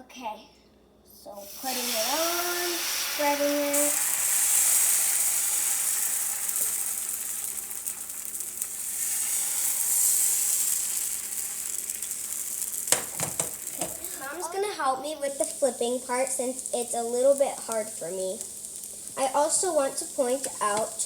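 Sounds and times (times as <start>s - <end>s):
batter sizzling in frying pan: 1.4s - 21.0s.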